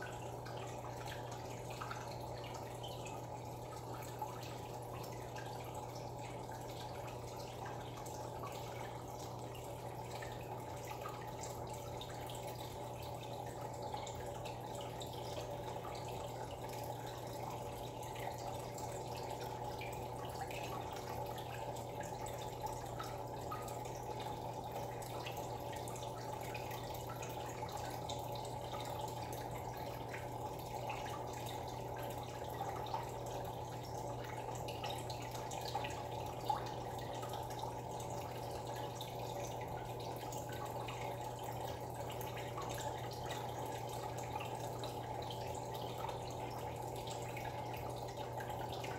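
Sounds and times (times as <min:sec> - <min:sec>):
constant low hum: 0:00.0 - 0:48.9
filter water trickling and dripping: 0:00.0 - 0:48.9.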